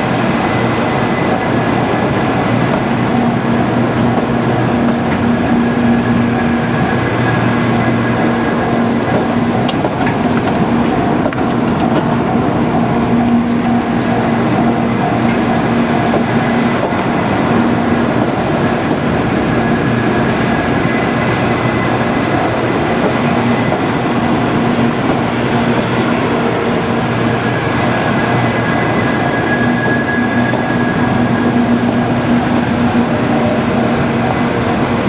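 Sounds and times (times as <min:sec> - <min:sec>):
train wheels running past: 0:00.0 - 0:35.0.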